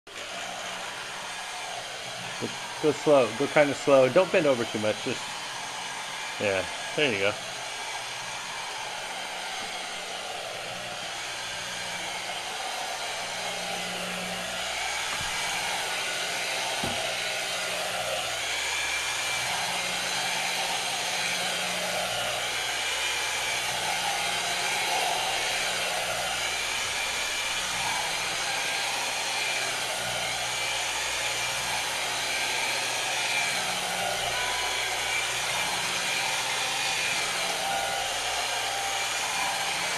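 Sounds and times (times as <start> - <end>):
carpet scrubber motor running: 0.1 - 39.9.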